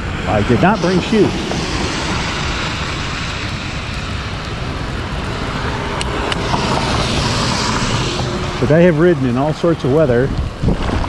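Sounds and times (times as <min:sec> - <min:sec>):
rain: 0:00.0 - 0:11.0
road hiss: 0:00.0 - 0:11.0
wind rumble on microphone: 0:00.0 - 0:11.0.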